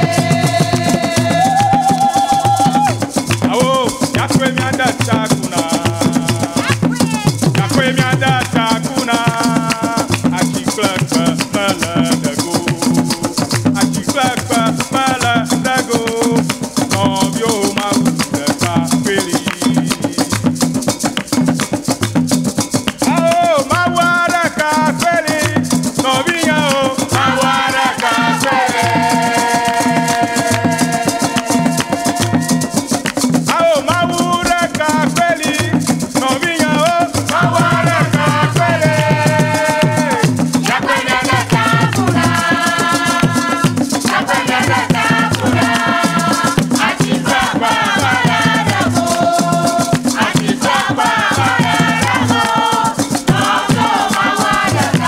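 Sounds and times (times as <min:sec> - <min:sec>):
voices singing: 0:00.0 - 0:20.3, 0:23.0 - 0:55.0
drums: 0:00.0 - 0:55.0
gourd rattle shaking: 0:00.0 - 0:55.0.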